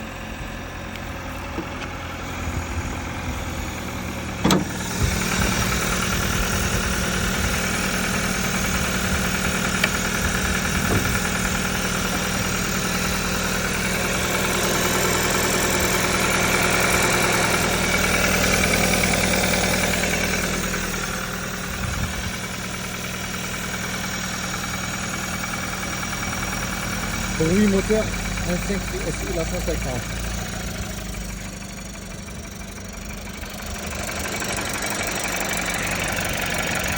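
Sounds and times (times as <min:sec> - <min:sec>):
car engine idling: 0:00.0 - 0:36.9
engine knock: 0:00.0 - 0:36.9.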